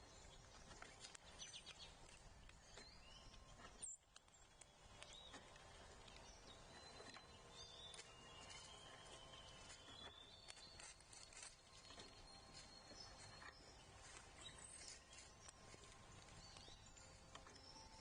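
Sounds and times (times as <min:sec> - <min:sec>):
bird chirps and clicks: 0:00.0 - 0:18.0.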